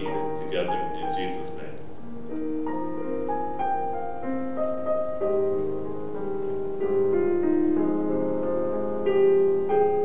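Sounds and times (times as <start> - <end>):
slow piano notes and chords: 0.0 - 10.0.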